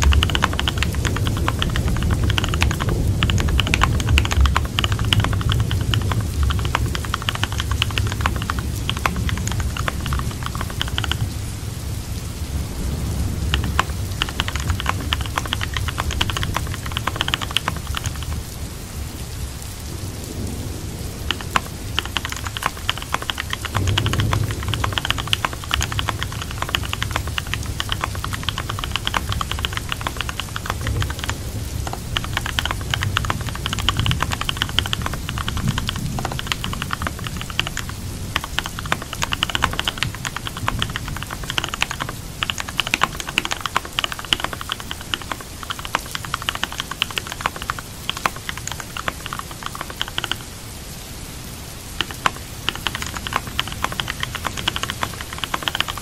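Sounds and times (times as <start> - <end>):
computer keyboard typing: 0.0 - 11.5, 13.3 - 18.6, 21.1 - 50.5, 52.0 - 56.0
rain hissing: 0.0 - 56.0.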